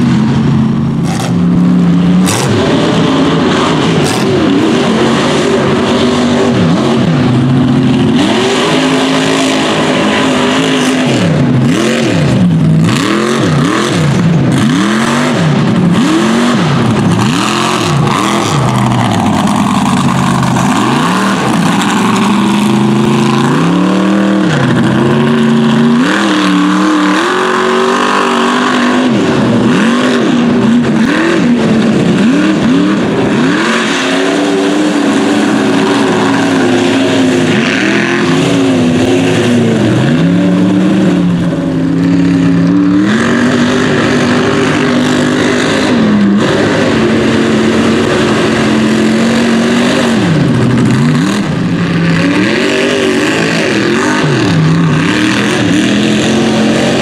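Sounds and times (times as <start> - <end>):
truck engines revving: 0.0 - 57.0
tyres churning mud: 0.0 - 57.0.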